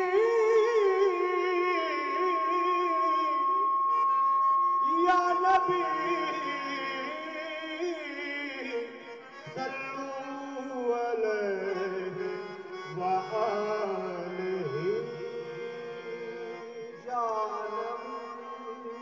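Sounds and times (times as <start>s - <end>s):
instrumental accompaniment: 0.0s - 19.0s
man singing: 0.0s - 19.0s.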